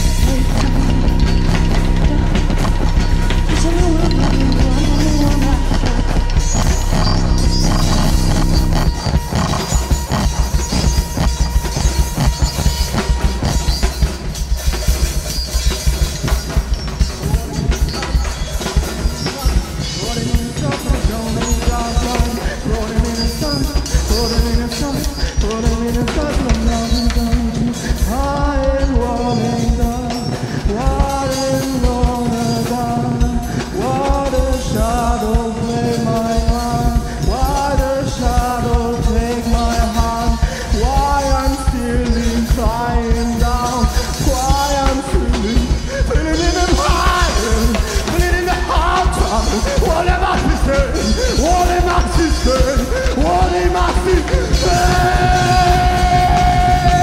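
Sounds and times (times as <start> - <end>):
drum kit playing busy beat: 0.0 - 57.0
electronic noise: 0.0 - 57.0
man singing into microphone: 0.0 - 57.0.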